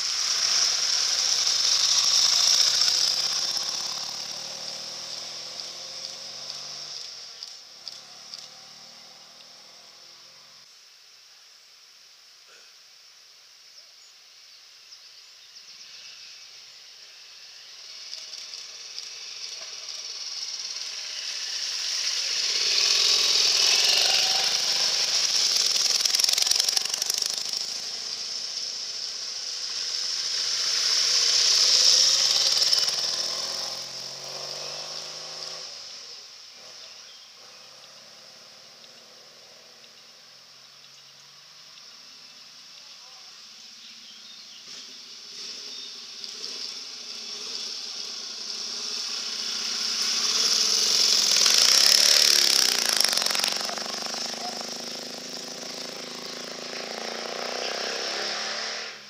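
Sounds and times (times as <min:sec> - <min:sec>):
motorcycle engines passing by: 0:00.0 - 0:10.7, 0:15.8 - 0:59.0.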